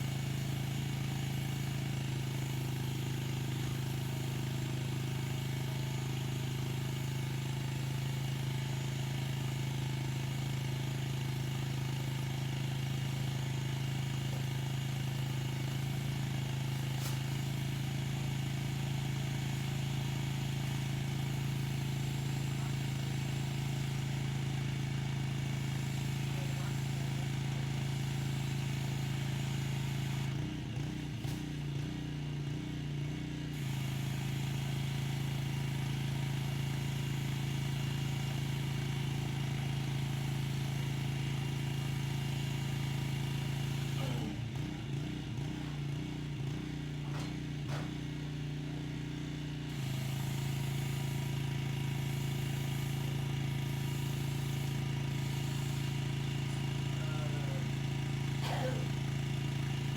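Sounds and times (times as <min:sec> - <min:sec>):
pressure washer motor hum: 0:00.0 - 0:59.9.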